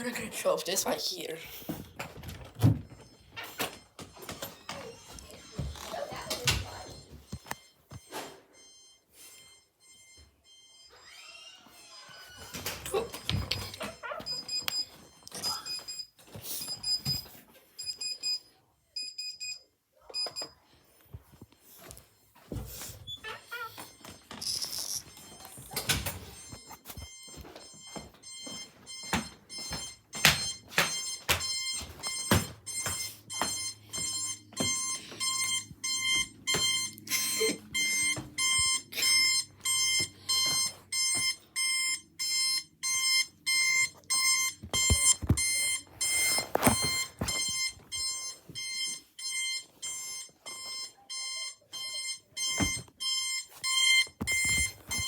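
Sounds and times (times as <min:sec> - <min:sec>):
alarm clock beeping: 0:00.0 - 0:20.6, 0:21.2 - 0:55.0.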